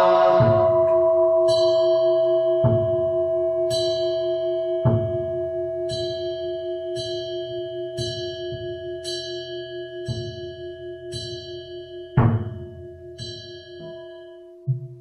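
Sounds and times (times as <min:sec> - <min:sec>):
steady pulsing bell ring: 0:00.0 - 0:15.0
temple bell strikes: 0:00.0 - 0:15.0.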